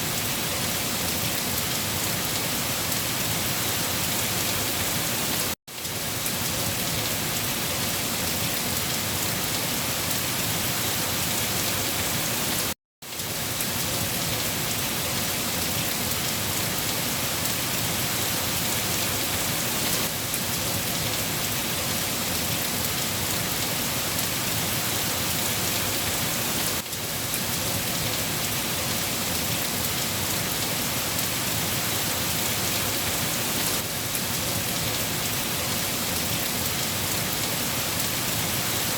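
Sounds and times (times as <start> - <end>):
steady dense rainfall: 0.0 - 38.9.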